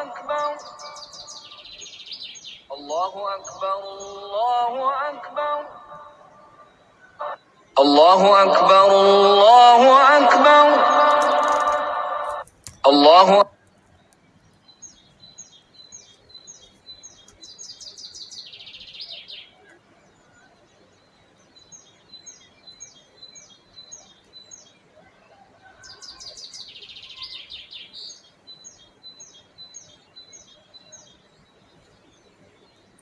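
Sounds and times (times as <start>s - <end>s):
songbird chirps and trills: 0.0s - 33.0s.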